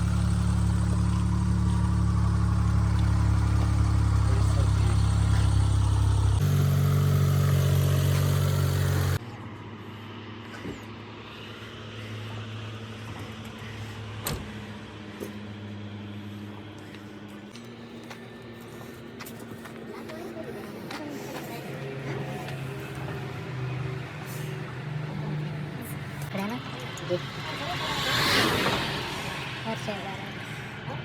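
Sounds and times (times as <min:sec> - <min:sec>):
heavy truck engine running: 0:00.0 - 0:09.2, 0:12.0 - 0:27.8.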